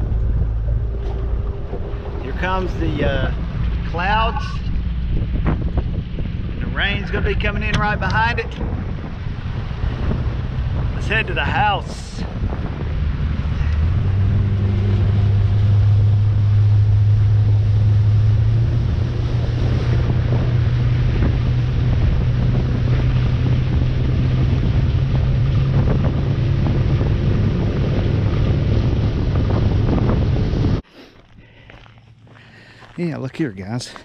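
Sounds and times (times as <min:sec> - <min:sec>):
water rushing past hull: 0:00.0 - 0:30.8
outboard motor humming: 0:00.0 - 0:33.0
wind buffeting microphone: 0:00.0 - 0:34.0.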